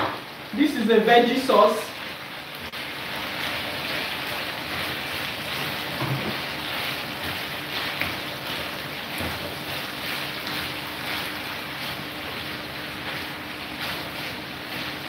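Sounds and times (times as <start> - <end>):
food sizzling in a frying pan: 0.0 - 15.0
spatula stirring: 2.7 - 15.0.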